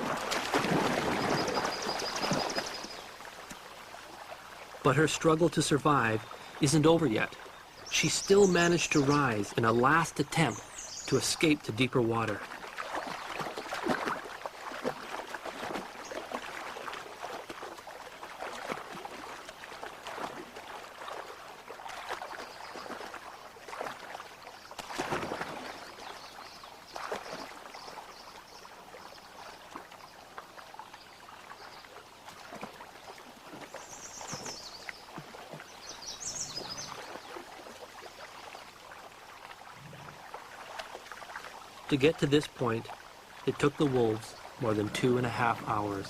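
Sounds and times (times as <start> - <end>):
water splashing: 0.0 - 46.0.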